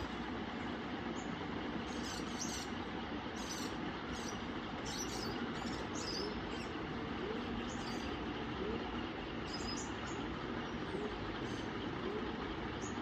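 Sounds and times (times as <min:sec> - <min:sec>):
ceiling fan air rush: 0:00.0 - 0:13.0.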